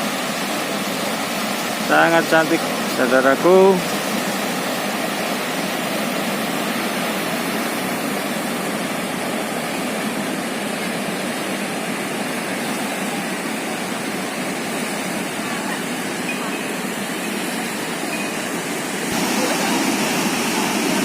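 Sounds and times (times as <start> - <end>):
heavy ocean surf roaring: 0.0 - 21.0.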